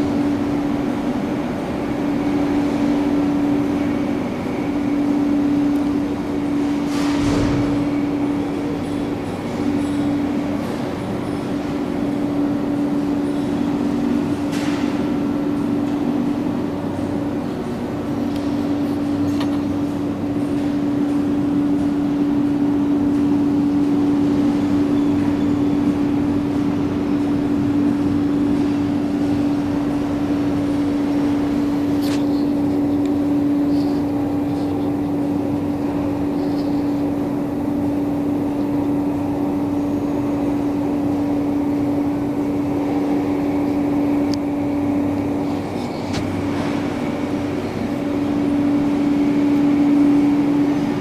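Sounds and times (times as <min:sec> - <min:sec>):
industrial machinery hum: 0:00.0 - 0:51.0.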